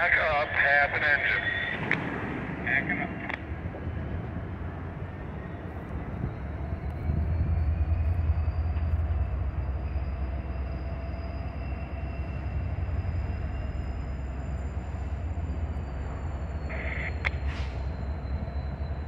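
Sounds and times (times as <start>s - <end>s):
locomotive engine drone: 0.0s - 19.0s.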